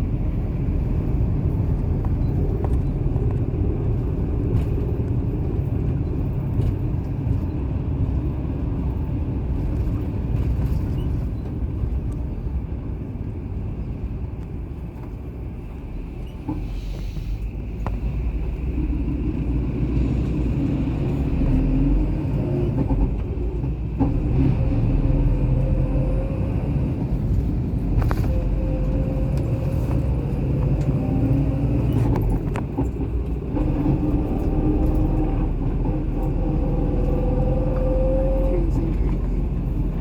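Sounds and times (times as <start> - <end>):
car engine and tyres rumbling: 0.0 - 40.0.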